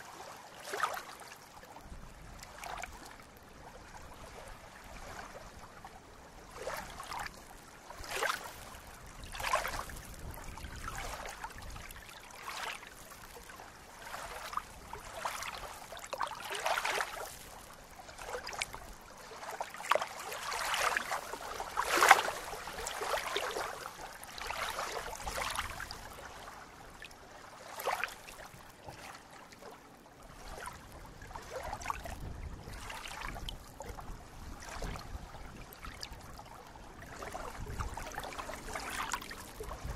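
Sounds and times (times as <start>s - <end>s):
water lapping on shore: 0.0s - 39.9s.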